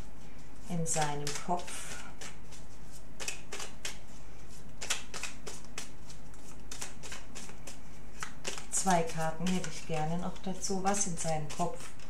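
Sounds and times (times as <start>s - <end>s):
cards being shuffled: 0.2s - 12.0s.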